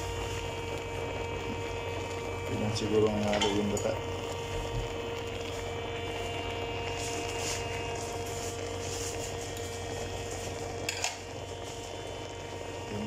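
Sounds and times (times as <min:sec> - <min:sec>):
steady hum with constant tones: 0:00.0 - 0:13.0.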